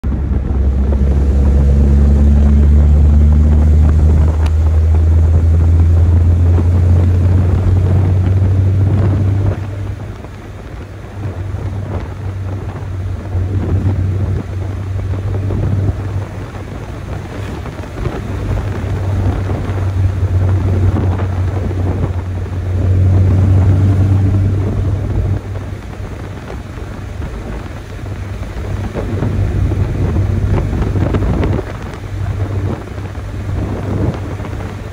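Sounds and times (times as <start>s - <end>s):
pickup engine driven hard: 0.0s - 34.9s.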